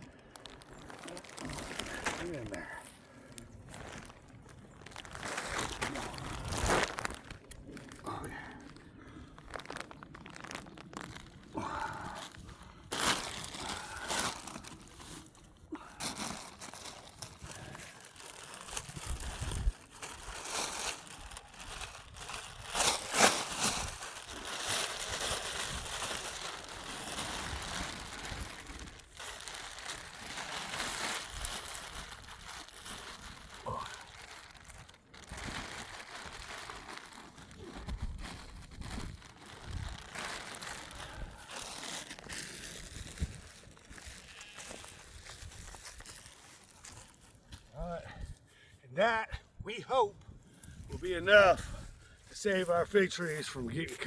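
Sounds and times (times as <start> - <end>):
bags rustling and crinkling: 0.0 - 48.4.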